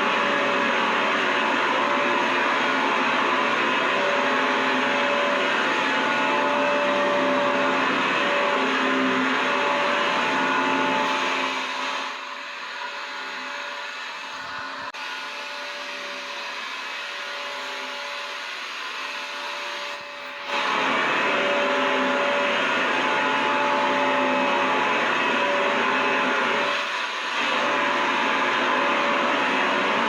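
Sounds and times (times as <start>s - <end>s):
vacuum cleaner motor whining: 0.0s - 30.0s.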